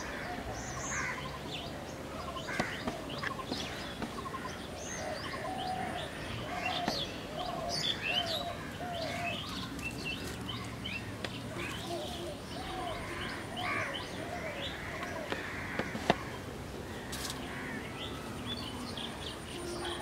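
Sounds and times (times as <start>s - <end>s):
lower arched bird calls: 0.0s - 20.0s.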